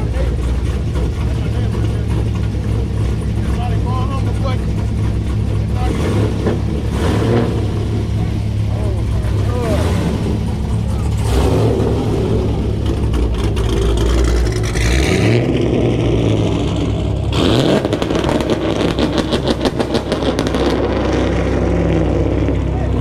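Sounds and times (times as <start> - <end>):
car engine rumbling and revving: 0.0 - 23.0
choppy pulsing exhaust: 0.0 - 23.0.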